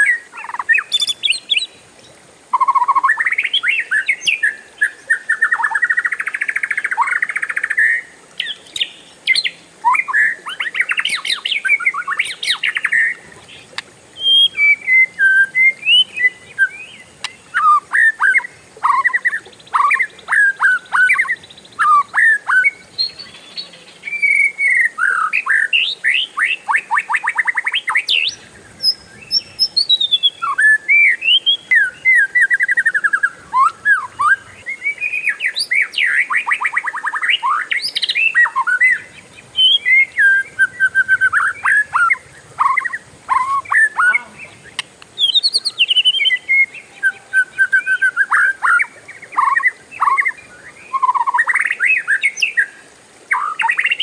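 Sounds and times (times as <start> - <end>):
bird singing whistled song: 0.0 - 1.8, 2.5 - 54.0.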